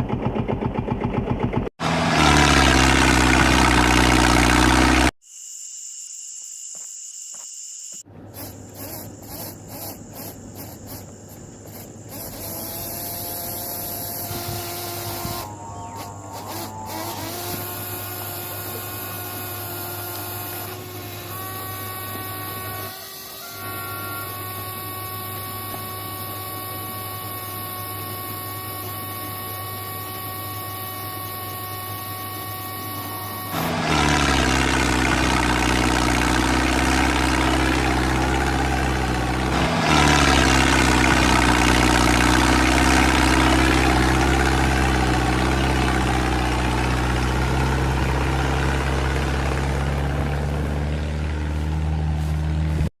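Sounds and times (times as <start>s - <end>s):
small motor droning: 1.8s - 5.2s, 7.9s - 52.9s.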